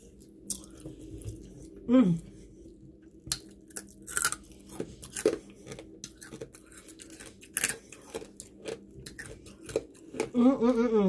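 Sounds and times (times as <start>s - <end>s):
person chewing crispy food: 0.0s - 10.5s.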